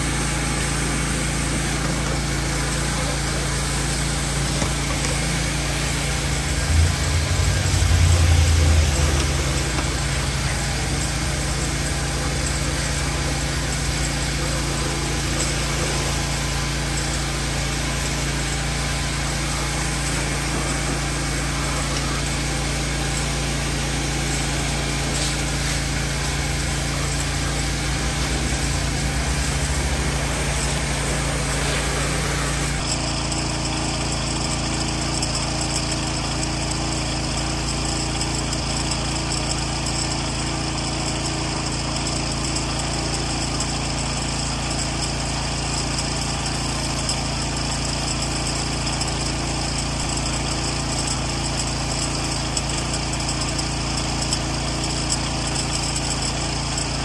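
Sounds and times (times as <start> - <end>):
pressure washer engine running: 0.0 - 57.0
water spraying against siding: 0.0 - 57.0.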